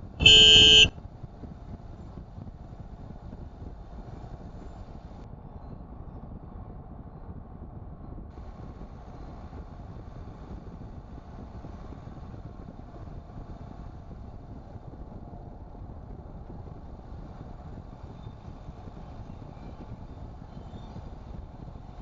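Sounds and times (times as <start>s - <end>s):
car interior road and engine rumble: 0.0s - 5.3s, 8.4s - 22.0s.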